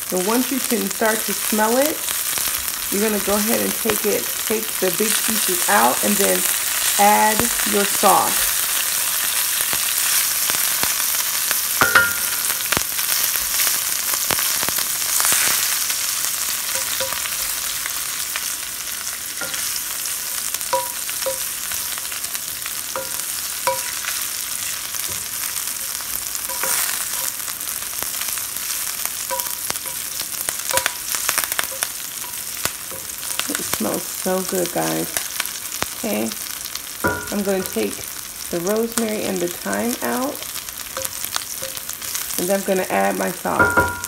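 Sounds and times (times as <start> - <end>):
herbs sizzling in hot oil: 0.0 - 44.0.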